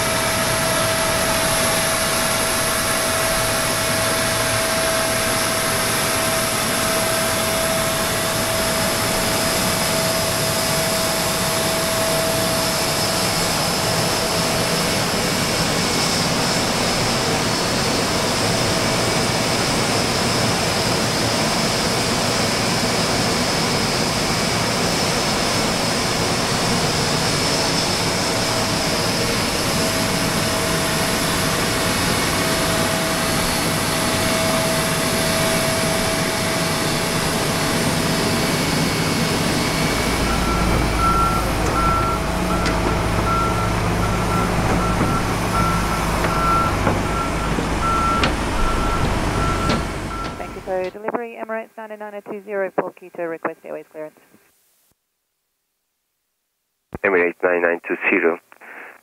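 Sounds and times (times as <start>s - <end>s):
jet turbine running with high whine: 0.0s - 51.1s.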